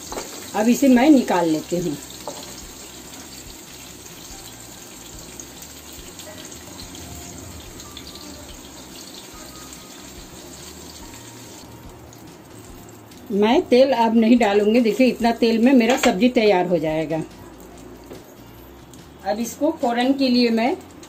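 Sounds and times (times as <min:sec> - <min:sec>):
okra sizzling in hot oil: 0:00.0 - 0:21.0.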